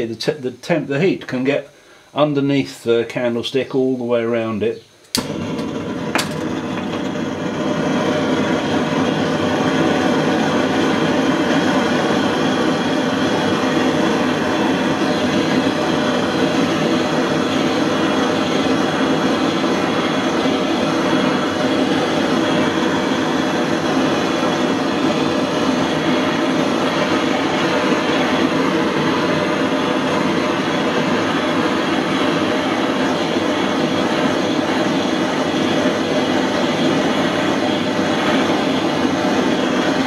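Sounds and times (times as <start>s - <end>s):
blowtorch flame rushing: 5.1s - 40.0s.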